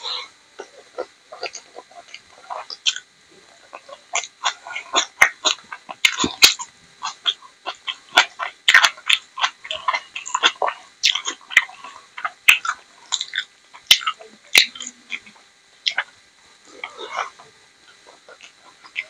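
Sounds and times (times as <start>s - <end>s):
fingers squelching in food: 0.0s - 16.1s
wet chewing and lip smacks: 0.6s - 16.1s.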